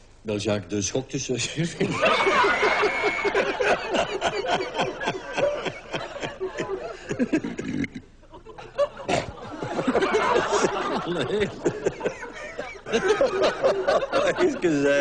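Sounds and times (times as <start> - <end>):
men snickering and giggling: 1.8 - 15.0.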